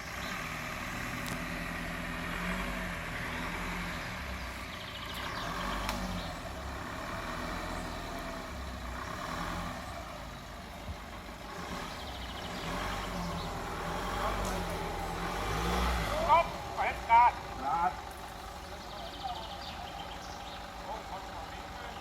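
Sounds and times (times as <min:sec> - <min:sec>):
vehicle engine at low revs: 0:00.0 - 0:22.0.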